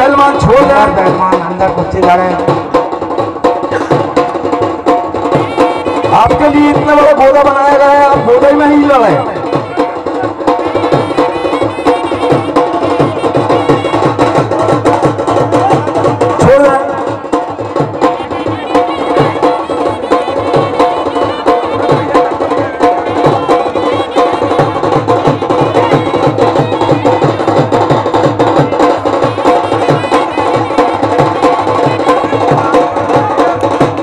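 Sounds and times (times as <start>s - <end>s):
folk music: 0.0s - 34.0s
steady drumming: 0.0s - 34.0s.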